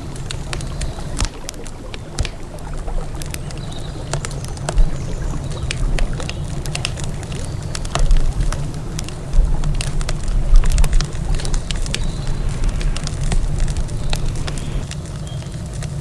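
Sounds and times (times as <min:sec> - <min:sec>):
steady low rumble: 0:00.0 - 0:15.0
campfire crackling: 0:00.0 - 0:15.1.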